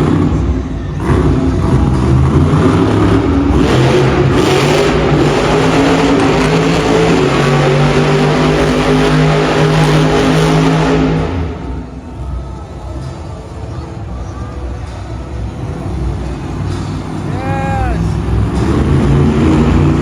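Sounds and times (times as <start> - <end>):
monster truck engine revving: 0.0 - 12.3, 14.9 - 20.0.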